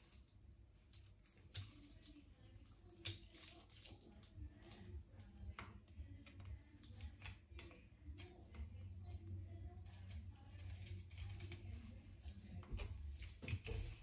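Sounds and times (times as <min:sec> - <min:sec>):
fish being filleted: 0:00.0 - 0:14.0.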